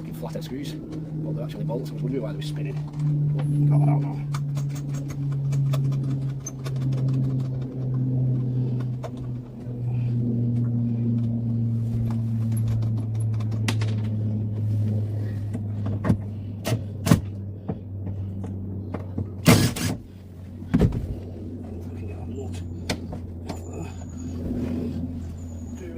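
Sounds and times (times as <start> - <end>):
low mechanical hum: 0.0 - 25.9.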